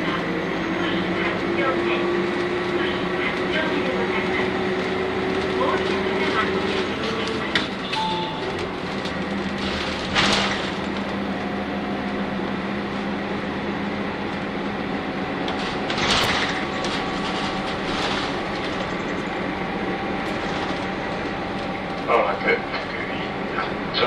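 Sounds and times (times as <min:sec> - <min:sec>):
bus engine running: 0:00.0 - 0:24.0
road noise inside bus: 0:00.0 - 0:24.0.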